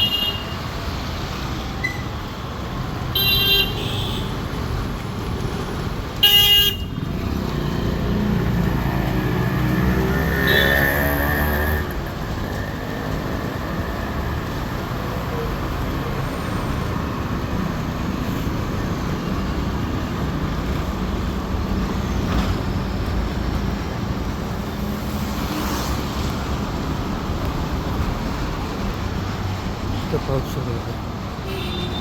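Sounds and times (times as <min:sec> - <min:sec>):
road traffic noise: 0:00.0 - 0:32.0
vehicles passing: 0:00.0 - 0:32.0.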